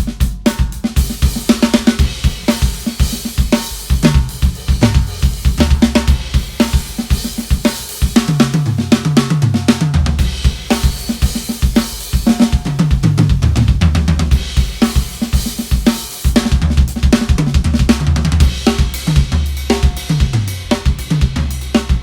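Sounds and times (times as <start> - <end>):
drum kit groove: 0.0 - 22.0.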